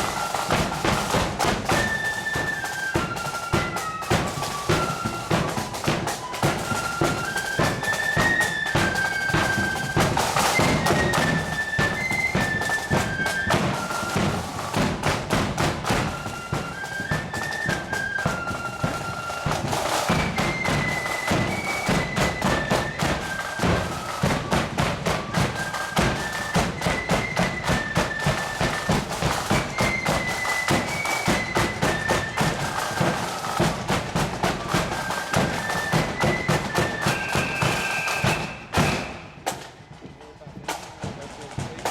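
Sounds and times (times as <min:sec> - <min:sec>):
rapid drumming: 0:00.0 - 0:39.7
high wind instruments playing: 0:00.0 - 0:39.8.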